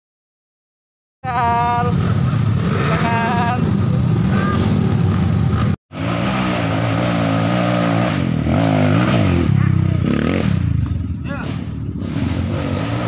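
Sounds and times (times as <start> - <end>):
dirt bike engine revving: 1.3 - 13.0.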